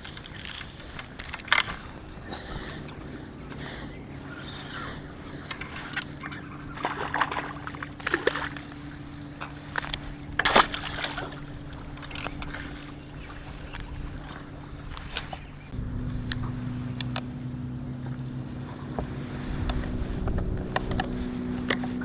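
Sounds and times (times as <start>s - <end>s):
boat motor humming: 0.0s - 22.0s
water sloshing against hull: 0.0s - 22.0s.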